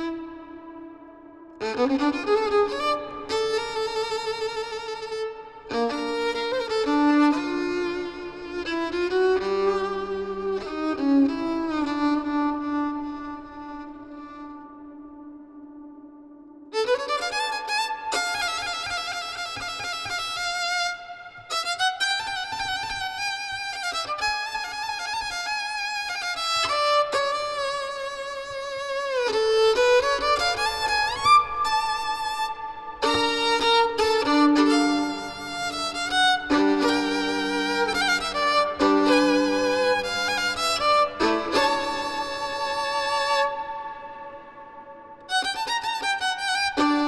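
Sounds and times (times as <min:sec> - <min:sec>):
violin playing slow folk melody: 0:00.0 - 0:47.0.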